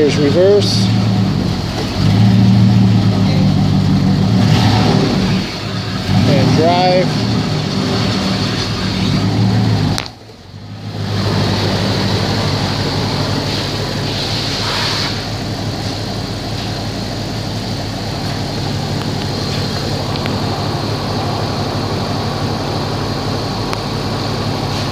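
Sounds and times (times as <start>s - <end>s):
truck engine idling: 0.0s - 24.9s.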